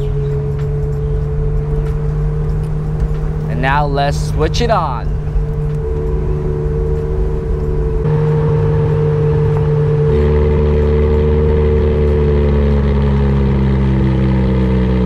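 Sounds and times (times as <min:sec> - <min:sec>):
sports car engine cruising: 0:00.0 - 0:15.0.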